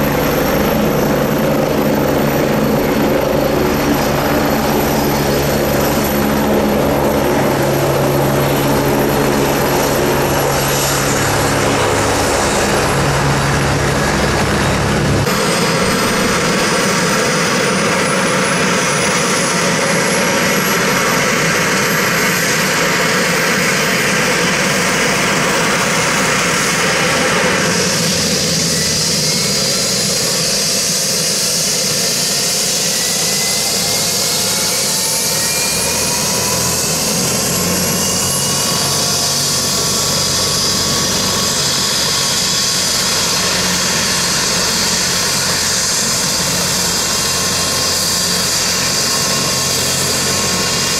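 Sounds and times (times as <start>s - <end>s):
helicopter turbine whine: 0.0s - 50.9s.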